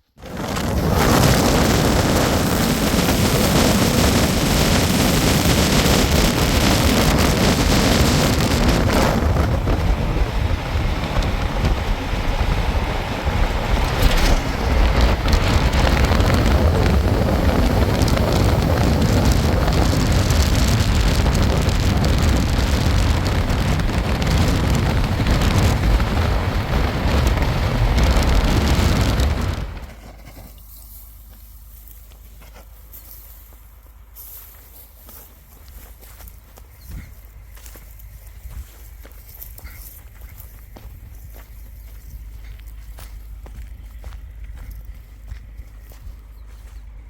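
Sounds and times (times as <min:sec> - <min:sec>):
low rumble: 0:00.2 - 0:30.2, 0:35.4 - 0:47.0.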